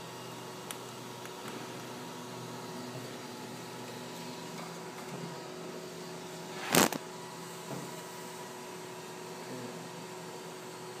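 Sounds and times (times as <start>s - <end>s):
cooling fans humming: 0.0s - 11.0s.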